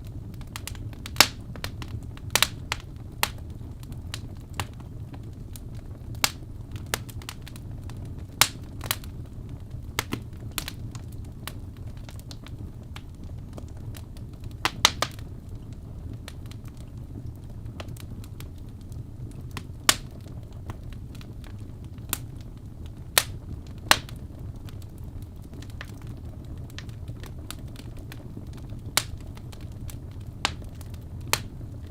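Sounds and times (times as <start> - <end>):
fire flames rumbling: 0.0 - 31.9
logs popping and crackling: 0.0 - 31.9.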